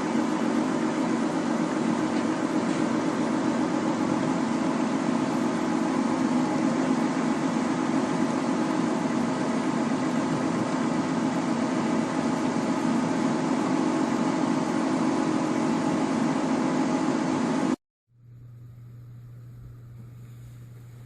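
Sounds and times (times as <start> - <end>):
machine motor humming: 0.0 - 21.0.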